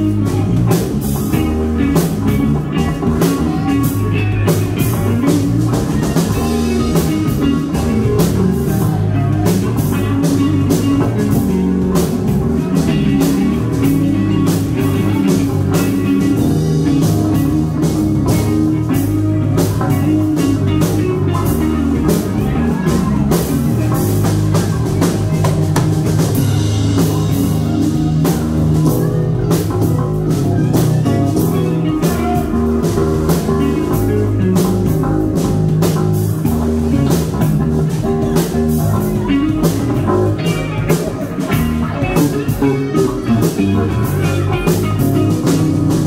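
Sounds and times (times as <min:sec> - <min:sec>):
bass line: 0:00.0 - 0:46.0
electric guitars: 0:00.0 - 0:46.0
rock band playing: 0:00.0 - 0:46.0.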